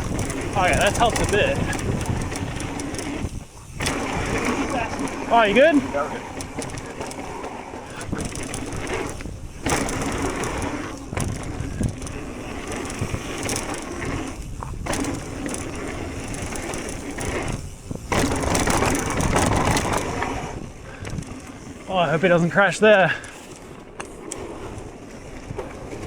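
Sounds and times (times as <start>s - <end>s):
wind rushing over microphone: 0.0s - 21.4s
bike tyres crunching over dirt: 0.0s - 26.0s.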